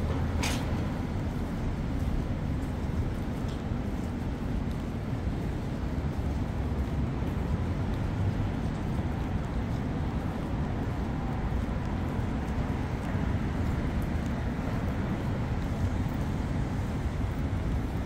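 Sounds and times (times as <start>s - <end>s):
city street traffic noise: 0.0s - 18.0s.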